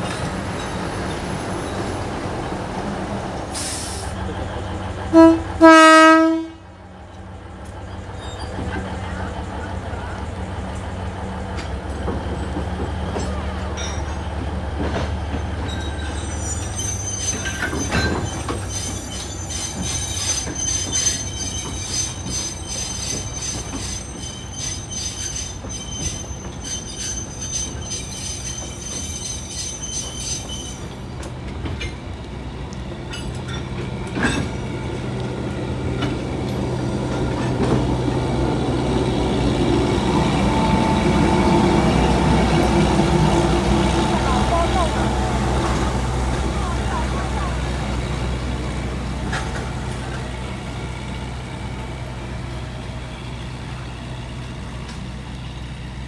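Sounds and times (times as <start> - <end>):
wheels squealing: 0.0 - 5.7, 7.6 - 56.0
train rumbling on rails: 0.0 - 56.0.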